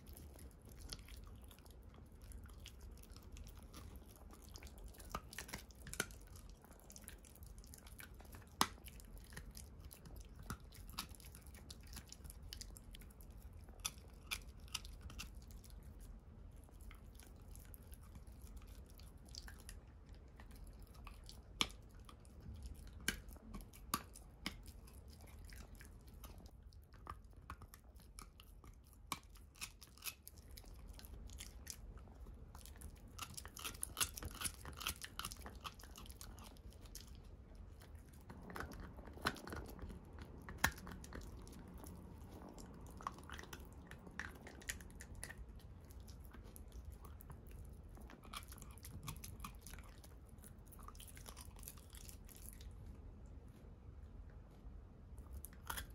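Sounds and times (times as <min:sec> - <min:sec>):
dog gnawing antler: 0:00.0 - 0:52.8, 0:55.2 - 0:55.9.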